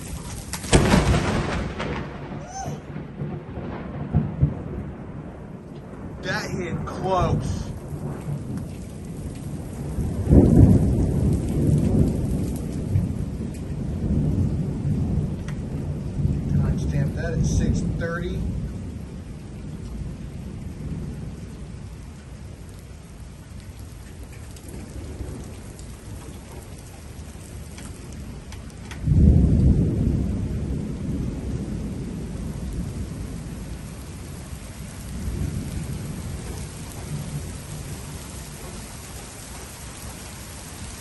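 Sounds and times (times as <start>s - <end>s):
steady rain: 0.0s - 41.0s
thunder clap and rumble: 0.0s - 41.0s.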